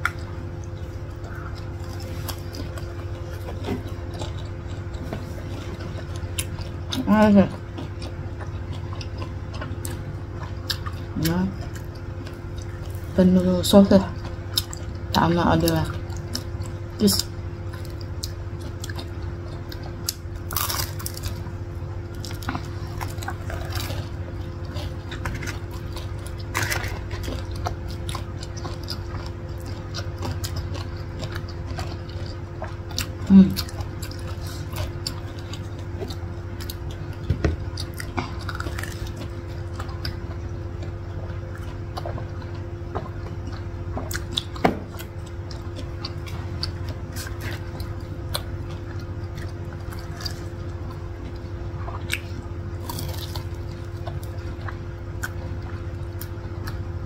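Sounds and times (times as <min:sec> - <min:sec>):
people chewing crunchy food: 0:00.0 - 0:57.0
steady low hum: 0:00.0 - 0:57.0.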